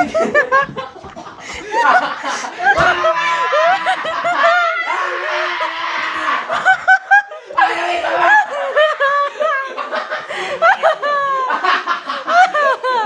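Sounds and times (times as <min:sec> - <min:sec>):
people laughing: 0:00.0 - 0:13.0.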